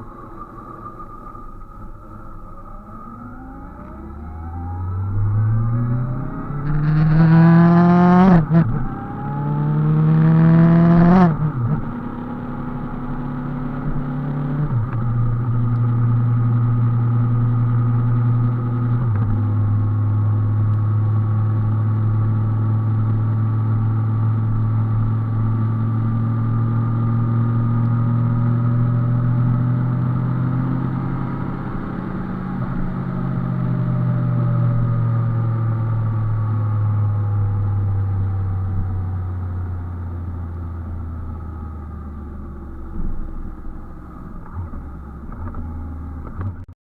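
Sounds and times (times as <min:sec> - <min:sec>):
motorcycle engine accelerating: 0:00.0 - 0:46.7.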